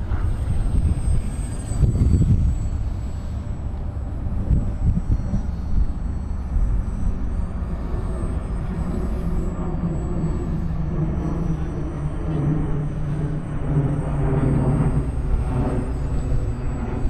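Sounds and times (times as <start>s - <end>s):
model airplane motor hum: 0.0s - 17.0s
wind buffeting microphone: 0.0s - 17.0s.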